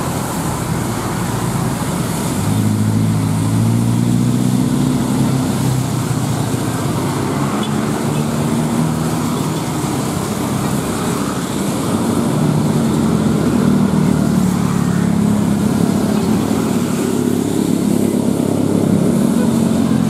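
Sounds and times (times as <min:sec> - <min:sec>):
traffic engine drone: 0:00.0 - 0:20.0
tyre hiss on wet road: 0:00.0 - 0:20.0.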